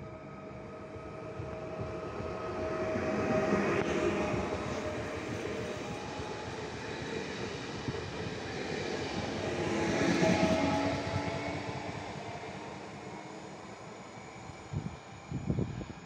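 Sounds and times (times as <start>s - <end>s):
electric train traction hum: 0.0s - 16.0s
train wheels on rails: 0.8s - 15.2s.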